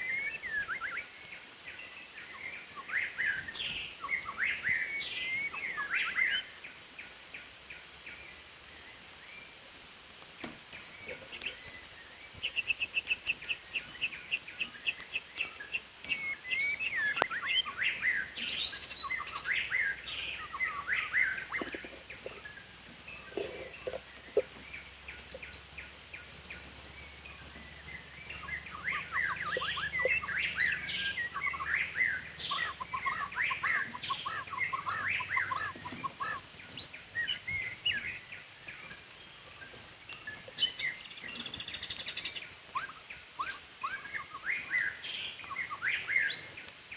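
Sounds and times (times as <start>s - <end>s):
bird singing: 0.0s - 9.7s, 10.7s - 46.9s
steady high hiss: 0.0s - 46.9s.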